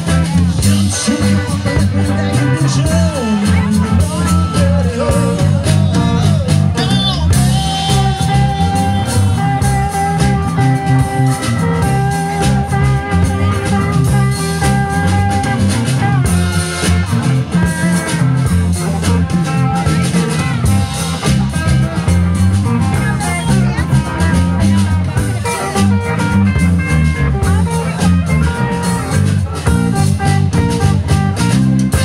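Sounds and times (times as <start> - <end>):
blues-rock band playing: 0.0 - 32.0.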